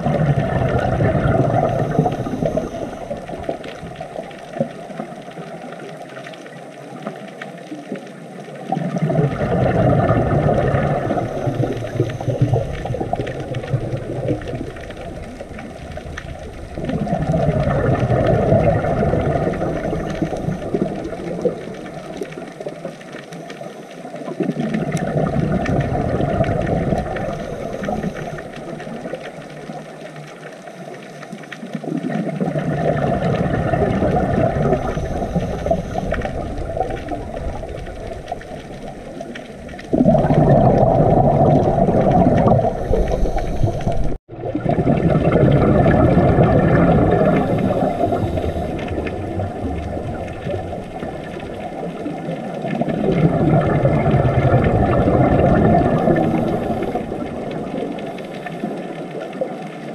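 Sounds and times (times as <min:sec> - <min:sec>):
underwater rushing water and bubbles: 0:00.0 - 0:59.9.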